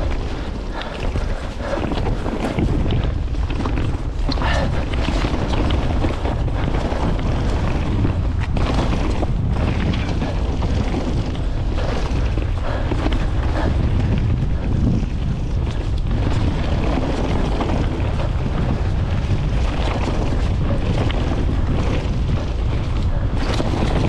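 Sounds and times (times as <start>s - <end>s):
bike rattling over rough ground: 0.0s - 24.0s
wind buffeting microphone: 0.0s - 24.0s.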